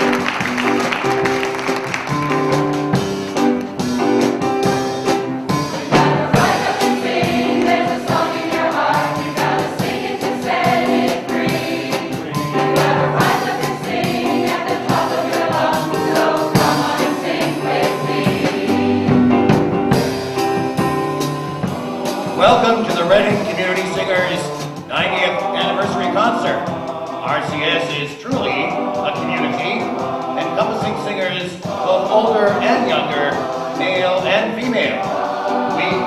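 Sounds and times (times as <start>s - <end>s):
instrumental accompaniment: 0.0s - 36.0s
choir singing: 5.5s - 20.2s, 21.2s - 36.0s.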